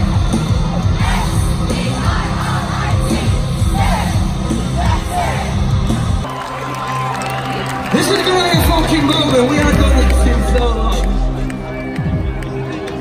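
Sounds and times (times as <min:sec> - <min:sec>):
live heavy rock music: 0:00.0 - 0:06.3, 0:07.9 - 0:13.0.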